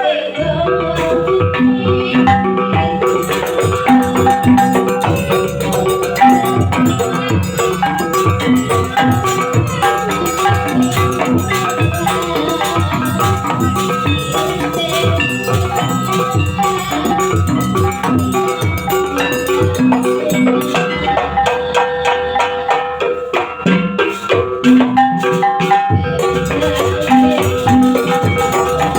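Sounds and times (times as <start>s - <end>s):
ringing metal keyed percussion: 0.4s - 28.9s
driving drum beat: 0.5s - 28.9s.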